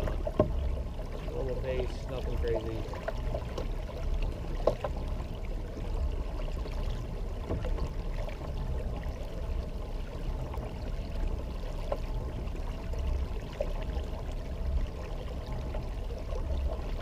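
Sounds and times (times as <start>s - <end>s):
low steady rumble: 0.0s - 17.0s
water rushing along kayak hull: 0.0s - 17.0s.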